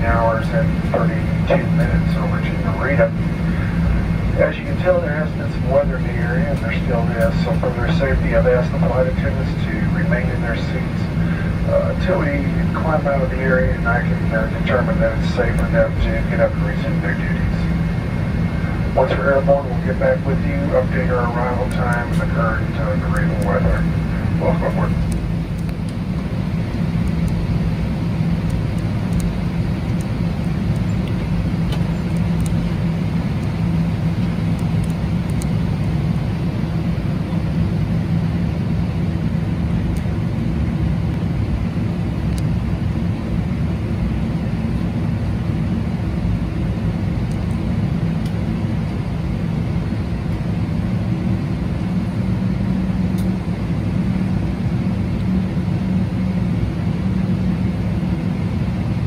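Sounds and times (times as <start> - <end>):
airplane cabin engine hum: 0.0 - 59.0.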